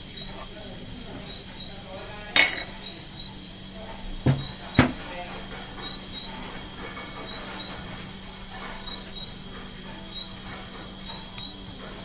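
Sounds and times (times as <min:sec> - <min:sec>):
insect chirping: 0:00.0 - 0:12.0
steady low hum: 0:00.0 - 0:12.0.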